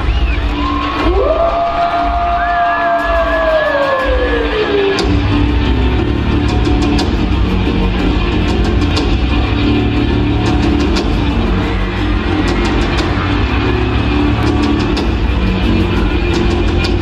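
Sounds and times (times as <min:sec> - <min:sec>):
loud music with percussion beat: 0:00.0 - 0:17.0.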